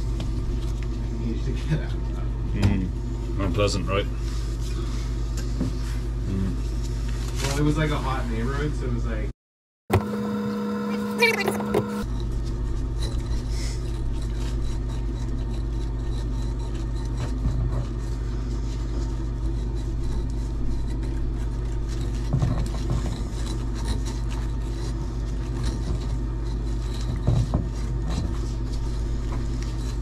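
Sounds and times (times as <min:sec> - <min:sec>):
low mechanical hum: 0:00.0 - 0:09.3, 0:09.9 - 0:30.0.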